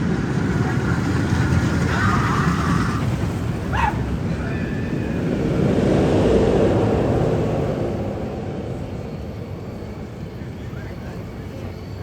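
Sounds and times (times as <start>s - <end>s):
roller coaster train rumbling past: 0.0s - 12.0s.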